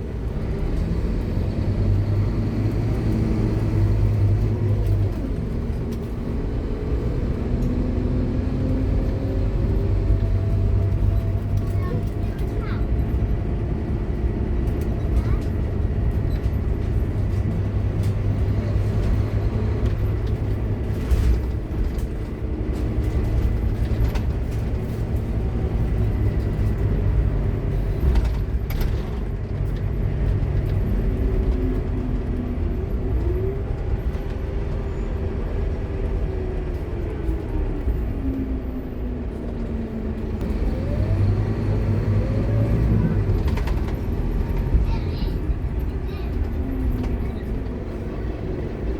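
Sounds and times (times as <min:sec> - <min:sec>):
bus diesel engine rumble: 0:00.0 - 0:48.9.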